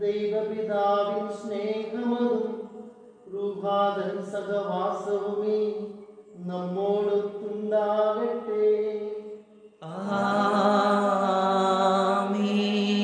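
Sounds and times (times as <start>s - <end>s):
liturgical chant: 0.0s - 13.0s.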